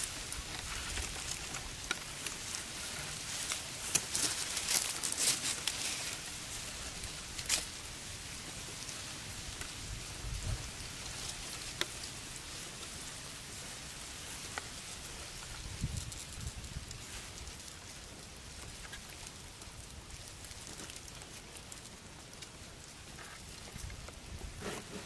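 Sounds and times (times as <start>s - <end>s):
dry reeds crackling: 0.0s - 25.0s.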